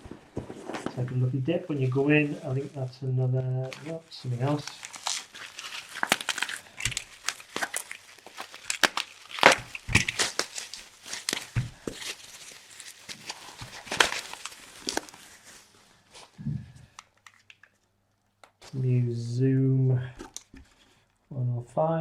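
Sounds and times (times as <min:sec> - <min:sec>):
packing material rustling: 0:00.0 - 0:17.9, 0:20.1 - 0:21.3.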